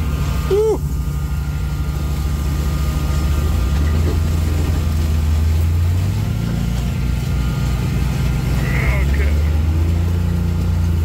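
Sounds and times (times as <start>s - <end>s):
towed mower running: 0.0s - 11.0s
utility vehicle engine under load: 0.0s - 11.0s.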